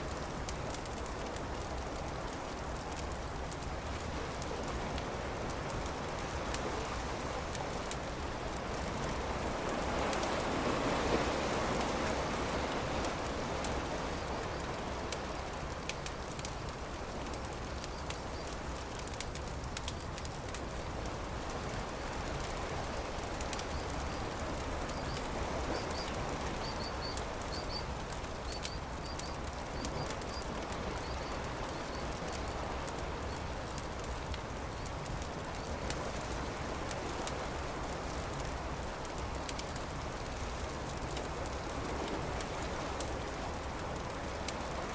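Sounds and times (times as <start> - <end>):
campfire crackling: 0.0 - 44.9
surf washing: 0.0 - 44.9.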